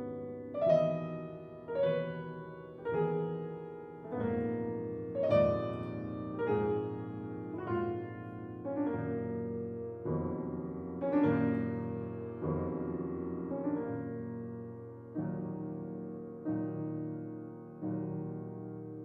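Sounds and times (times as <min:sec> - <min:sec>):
grand piano chords: 0:00.0 - 0:19.0.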